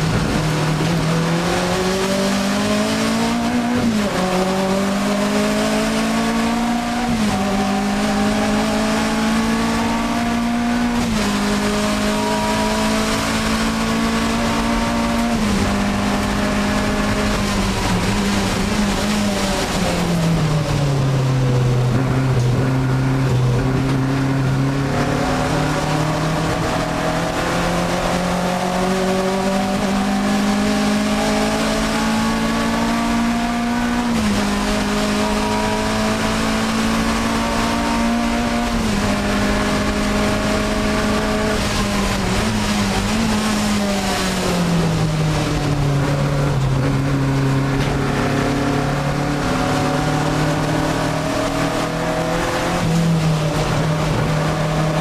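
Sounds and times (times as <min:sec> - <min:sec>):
car engine revving in cabin: 0:00.0 - 0:55.0.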